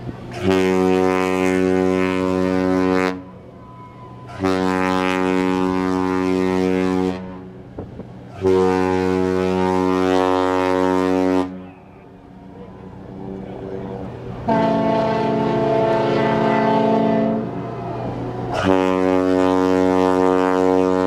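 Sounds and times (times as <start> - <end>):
deep ship's horn blasts: 0.0 - 21.0.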